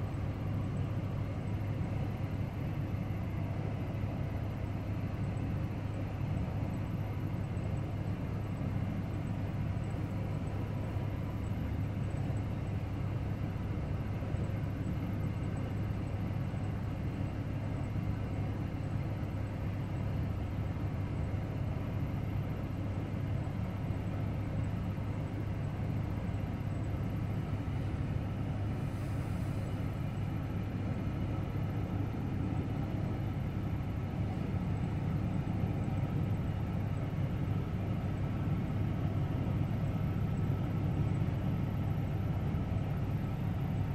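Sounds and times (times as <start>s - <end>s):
low engine rumble: 0.0s - 43.9s.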